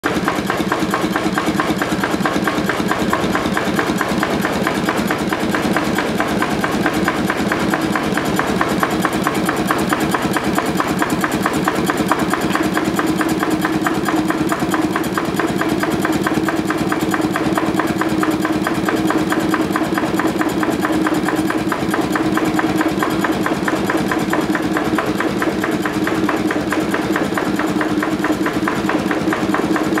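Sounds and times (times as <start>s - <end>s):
stationary engine running: 0.0s - 30.0s.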